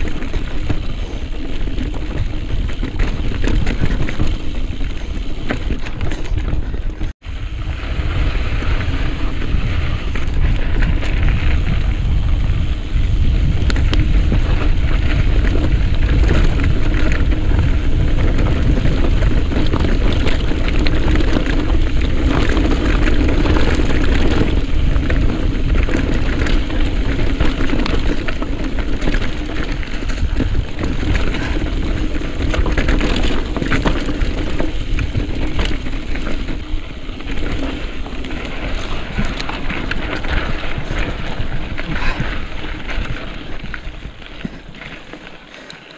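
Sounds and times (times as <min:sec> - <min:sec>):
wind rushing over microphone: 0:00.0 - 0:45.5
bike rattling and clattering: 0:00.0 - 0:45.9.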